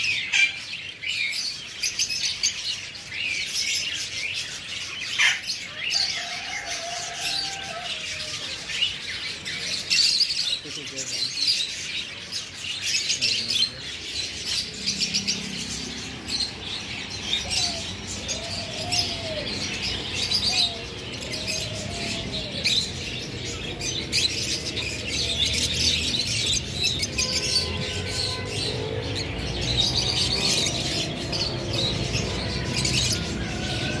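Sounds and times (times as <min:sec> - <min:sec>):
caged birds chirping: 0:00.0 - 0:34.0.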